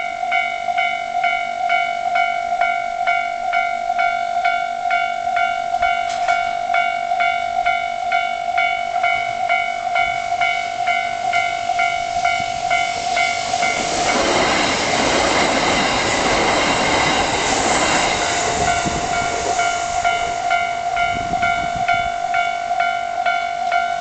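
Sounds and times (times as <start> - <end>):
level crossing alarm ringing: 0.0 - 24.0
train wheel and rail noise: 0.0 - 24.0.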